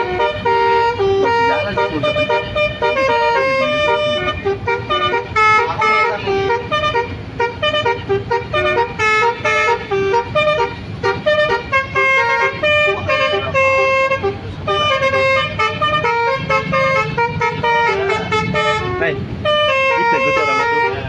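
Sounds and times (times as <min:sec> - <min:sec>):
bus horn playing a fast tune: 0:00.0 - 0:21.0.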